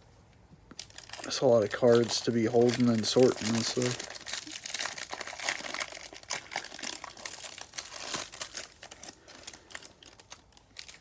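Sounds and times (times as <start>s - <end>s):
cellophane wrapper tearing and crinkling: 0.7s - 11.0s.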